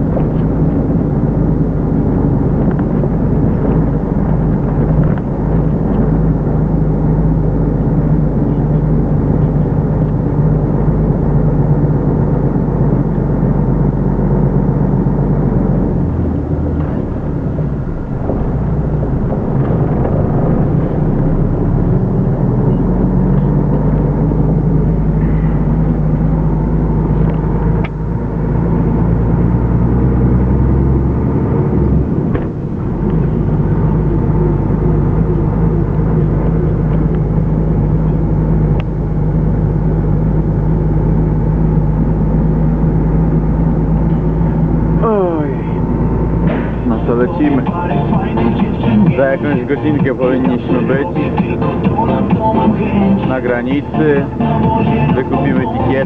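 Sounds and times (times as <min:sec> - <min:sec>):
lorry diesel engine running: 0:00.0 - 0:56.0.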